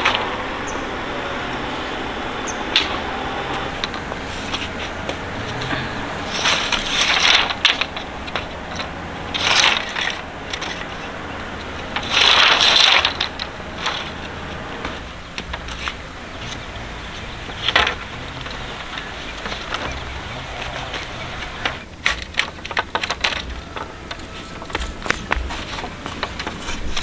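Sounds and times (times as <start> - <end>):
bamboo poles clattering: 0.0 - 27.0
bamboo poles scraping on dirt: 0.0 - 27.0.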